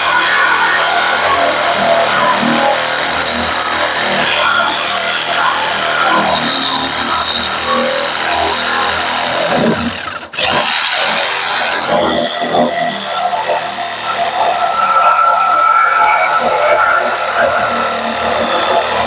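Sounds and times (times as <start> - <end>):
jigsaw cutting sheet metal: 0.0 - 19.0.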